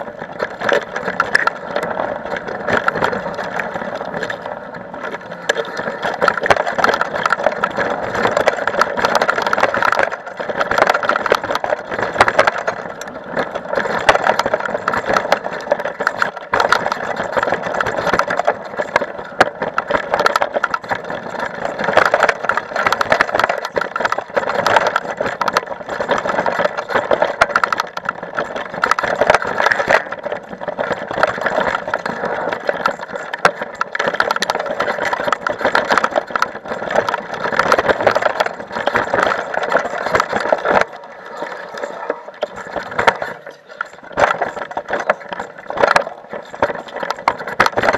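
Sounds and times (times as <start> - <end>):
mountain bike rattling on dirt trail: 0.0 - 47.9.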